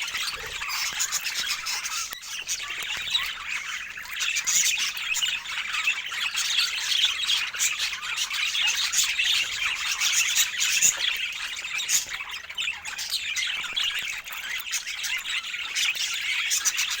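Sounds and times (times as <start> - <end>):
budgerigars chattering and squawking: 0.0 - 17.0.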